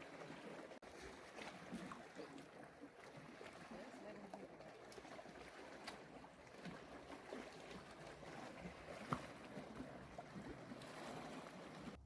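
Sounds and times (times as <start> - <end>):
water lapping among rocks: 0.0 - 12.0.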